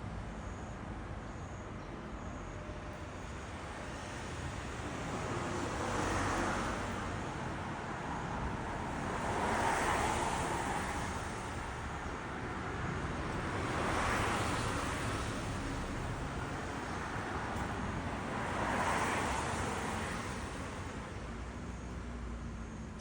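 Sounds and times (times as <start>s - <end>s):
outdoor background rush: 0.0s - 23.0s.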